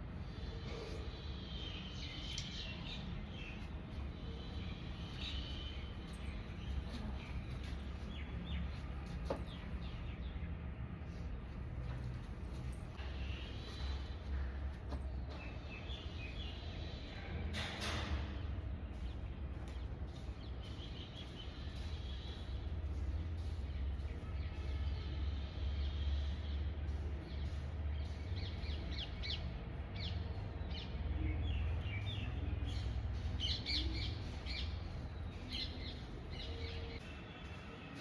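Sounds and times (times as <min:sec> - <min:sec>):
birds chirping: 0:00.3 - 0:14.4, 0:20.4 - 0:37.0.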